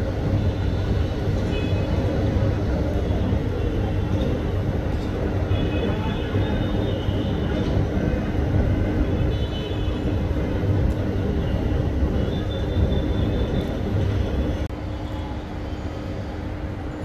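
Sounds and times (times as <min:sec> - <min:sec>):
constant traffic hum: 0:00.0 - 0:17.0
rumble of passing vehicles: 0:00.0 - 0:17.0.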